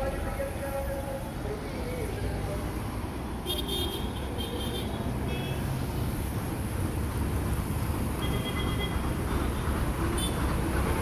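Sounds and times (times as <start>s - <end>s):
passing vehicles rumble: 0.0s - 11.0s.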